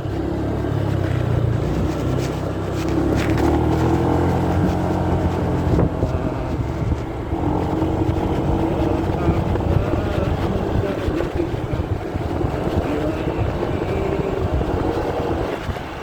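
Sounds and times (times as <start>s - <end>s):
muffled motorcycle engine and wind: 0.0s - 16.0s.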